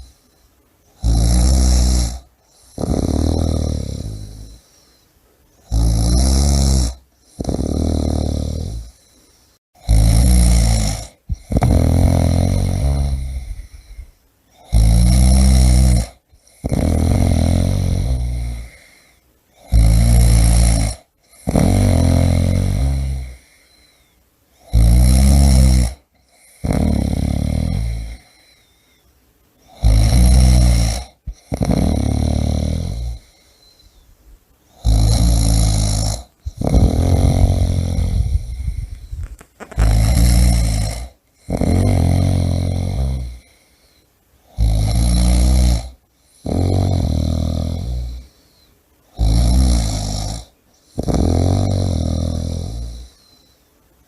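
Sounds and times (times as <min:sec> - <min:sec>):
person snoring loudly: 0:01.0 - 0:04.7, 0:05.6 - 0:09.0, 0:09.8 - 0:23.8, 0:24.6 - 0:28.6, 0:29.6 - 0:33.8, 0:34.7 - 0:43.6, 0:44.4 - 0:48.4, 0:49.1 - 0:53.4.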